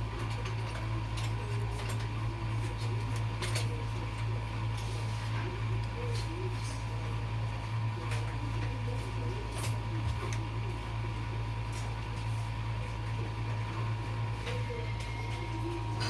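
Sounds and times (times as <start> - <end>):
washing machine humming: 0.0 - 16.0.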